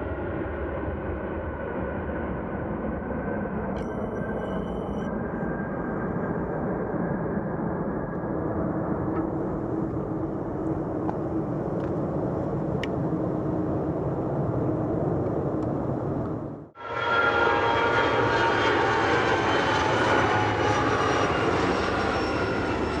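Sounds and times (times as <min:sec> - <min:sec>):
jet engines roaring: 0:00.1 - 0:23.0.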